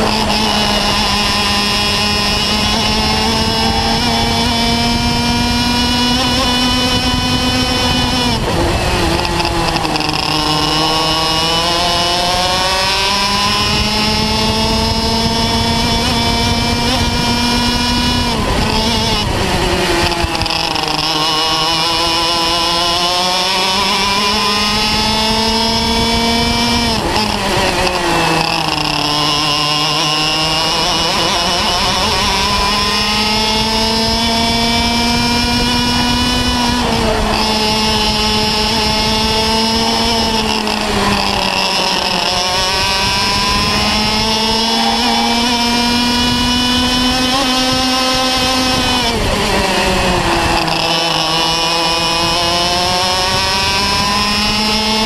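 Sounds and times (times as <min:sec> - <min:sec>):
kart engine accelerating and braking: 0:00.0 - 0:55.0.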